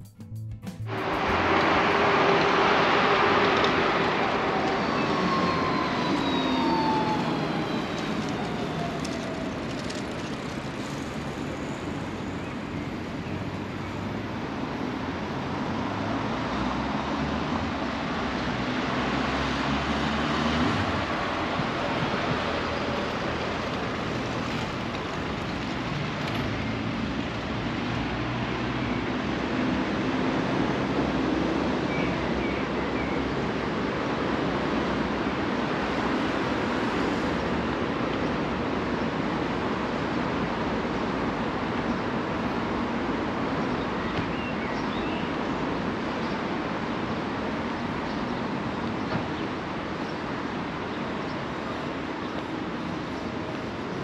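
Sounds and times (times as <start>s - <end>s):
passing cars: 0.9s - 54.0s.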